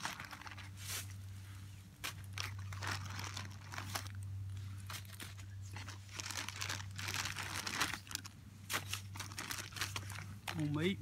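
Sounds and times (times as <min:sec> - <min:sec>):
plastic bag crinkling: 0:00.0 - 0:00.8, 0:02.1 - 0:10.8
steady low hum: 0:00.0 - 0:11.0.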